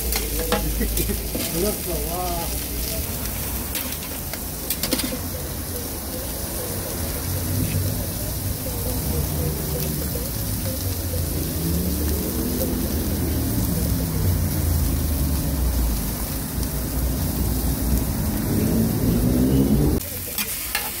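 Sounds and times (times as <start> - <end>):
egg sizzling on griddle: 0.0 - 19.4, 20.0 - 21.0.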